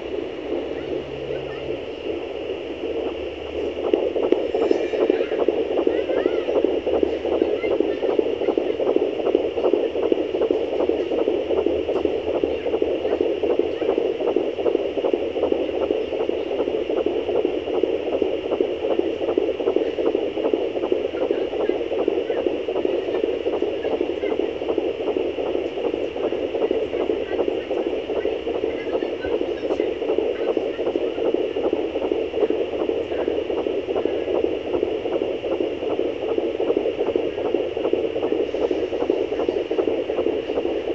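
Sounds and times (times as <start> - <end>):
fetal heartbeat pulsing whoosh: 0.0 - 40.9.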